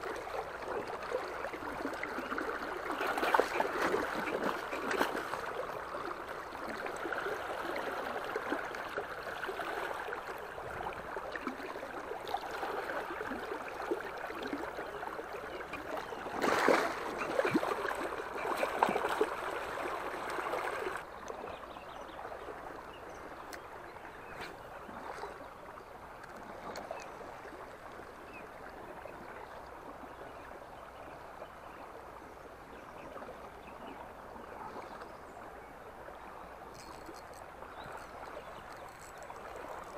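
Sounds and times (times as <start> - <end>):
river water rushing and gurgling: 0.0 - 39.9.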